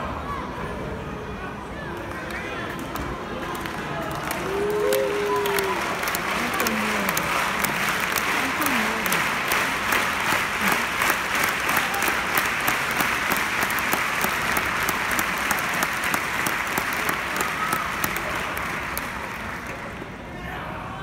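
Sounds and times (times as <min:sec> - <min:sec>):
crowd applauding: 0:02.9 - 0:20.2.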